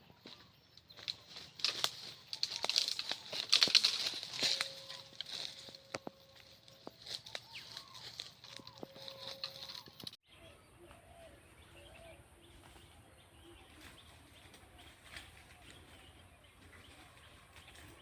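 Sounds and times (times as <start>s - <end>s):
soft bird chirps: 0.0s - 18.0s.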